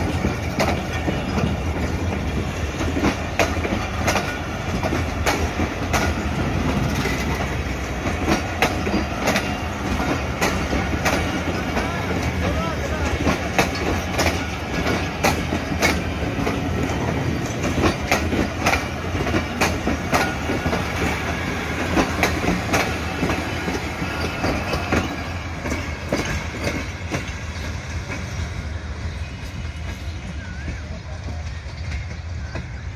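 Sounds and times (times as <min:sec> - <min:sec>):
low train rumble: 0:00.0 - 0:32.9
train wheels clacking over rail joints: 0:00.0 - 0:32.9.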